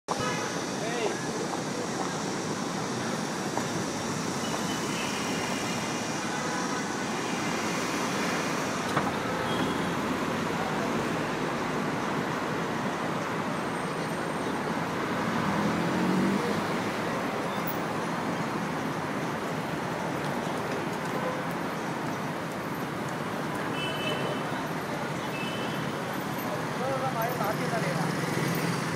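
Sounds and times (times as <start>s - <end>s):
road traffic passing: 0.1s - 28.9s.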